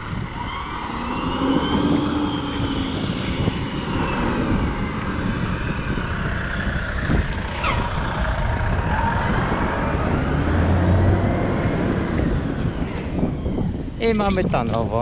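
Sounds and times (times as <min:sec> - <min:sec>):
road traffic passing: 0:00.0 - 0:15.0
wind rumble on microphone: 0:00.0 - 0:15.0.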